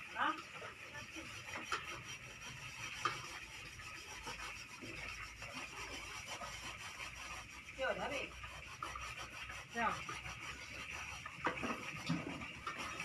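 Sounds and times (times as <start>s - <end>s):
utensils scraping bowls: 0.0s - 13.0s.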